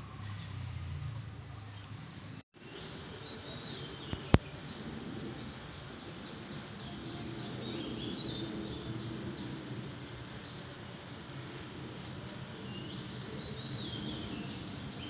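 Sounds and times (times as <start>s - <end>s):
songbirds calling: 2.6s - 15.0s
steady background hiss: 2.6s - 15.0s.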